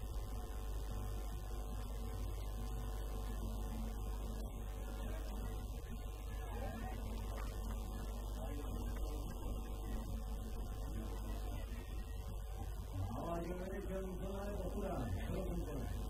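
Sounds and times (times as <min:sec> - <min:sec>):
faint indistinct voices: 0:00.0 - 0:16.0
low electrical hum: 0:00.0 - 0:16.0.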